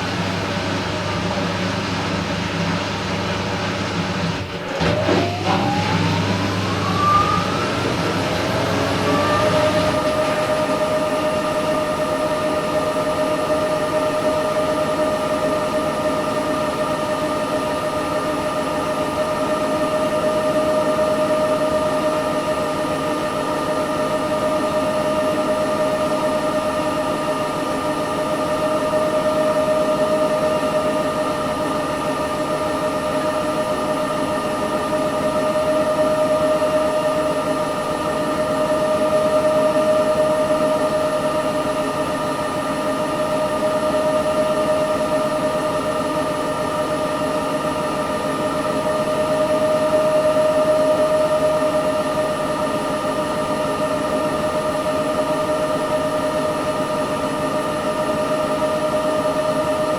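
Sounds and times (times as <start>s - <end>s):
washing machine motor whine: 0.0s - 59.9s
washing machine rushing noise: 0.0s - 59.9s.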